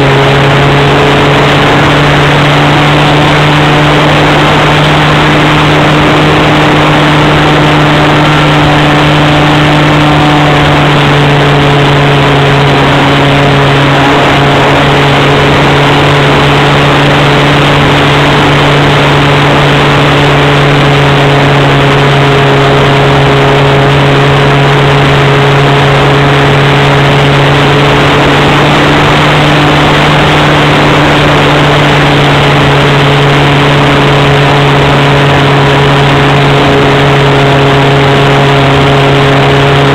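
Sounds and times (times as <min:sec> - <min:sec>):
model plane engine running high: 0:00.0 - 0:39.9
wind rush: 0:00.0 - 0:39.9.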